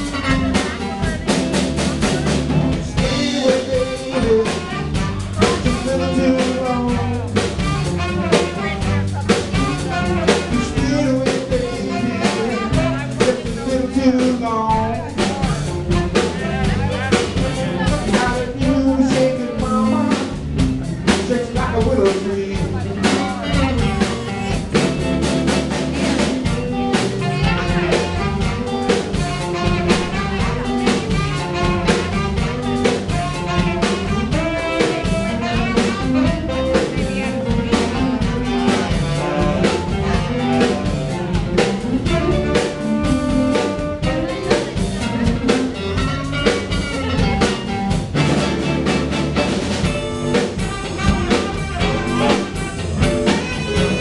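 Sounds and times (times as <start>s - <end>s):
drum kit hits: 0.0s - 54.0s
guitars: 0.0s - 54.0s.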